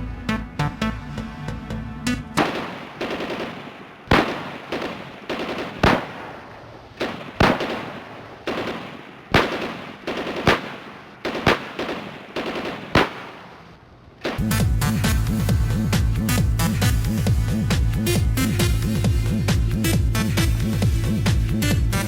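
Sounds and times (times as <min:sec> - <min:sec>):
sharp bangs like gunshots: 0:02.4 - 0:22.0.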